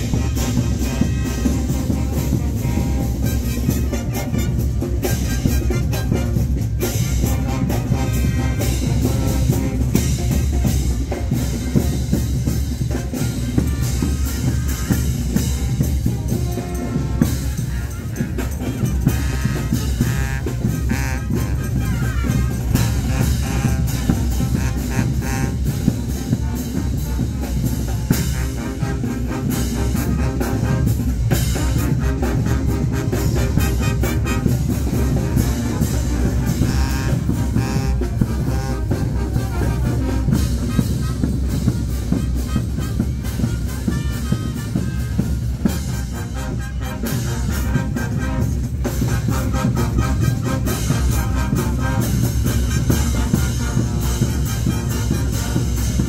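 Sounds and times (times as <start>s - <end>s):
bass drum and snare beat: 0.0s - 56.0s
brass band playing: 0.0s - 56.0s.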